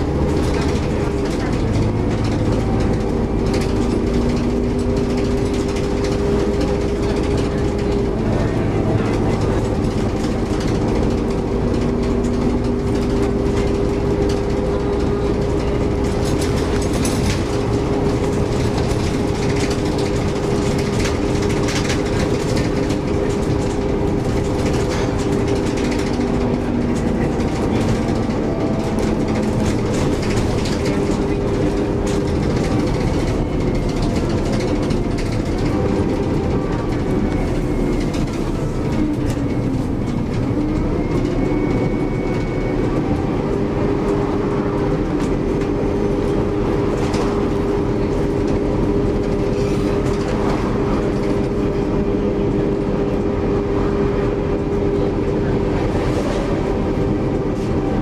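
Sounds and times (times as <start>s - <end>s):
bus engine drone: 0.0s - 58.0s
tyre and road noise: 0.0s - 58.0s.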